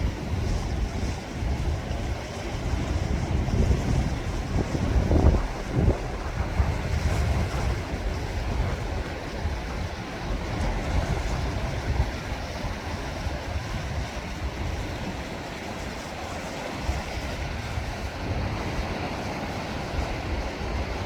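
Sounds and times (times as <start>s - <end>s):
sea waves washing on shore: 0.0s - 21.0s
wind buffeting microphone: 0.0s - 21.0s.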